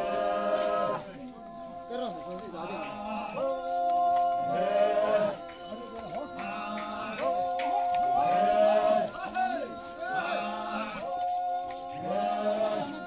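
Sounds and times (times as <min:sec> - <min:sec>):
voices singing together: 0:00.0 - 0:13.0.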